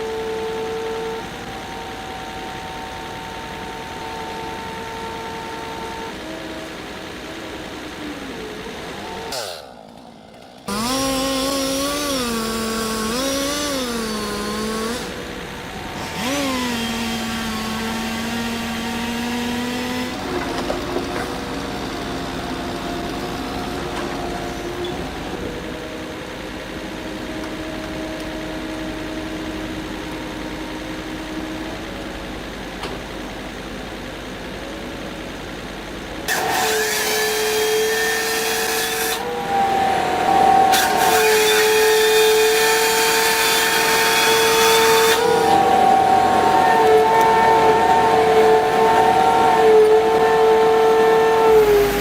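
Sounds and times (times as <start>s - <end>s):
machinery engine revving: 0.0s - 52.0s.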